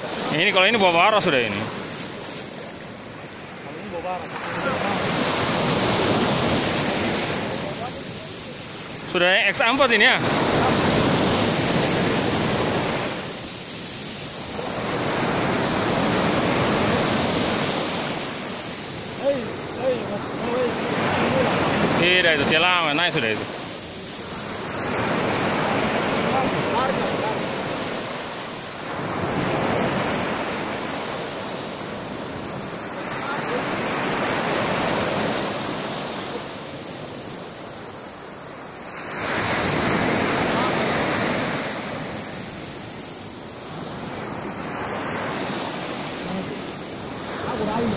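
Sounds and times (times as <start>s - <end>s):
sea surf breaking: 0.0s - 47.9s.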